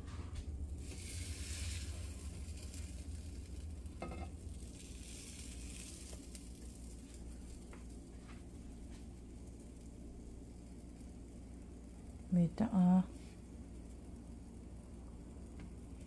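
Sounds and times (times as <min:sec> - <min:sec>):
low hum: 0:00.0 - 0:16.0
batter sizzling in frying pan: 0:00.5 - 0:16.0.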